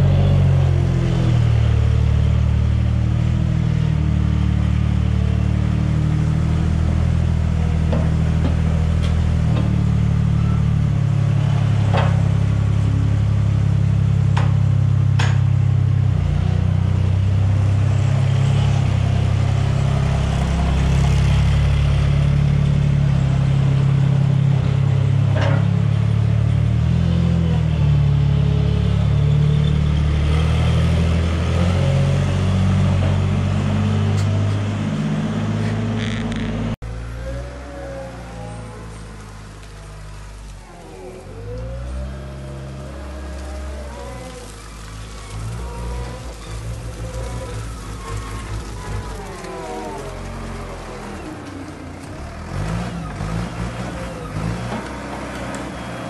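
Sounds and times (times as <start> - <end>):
loader engine revving: 0.0 - 56.0.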